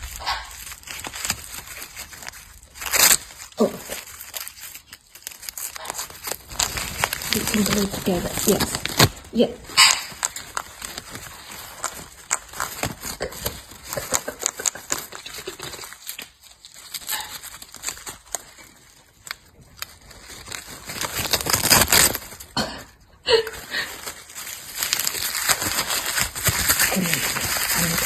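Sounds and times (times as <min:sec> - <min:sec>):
parrot tearing and chewing paper: 0:00.0 - 0:22.6, 0:23.5 - 0:28.0
paper crinkling: 0:00.0 - 0:28.0.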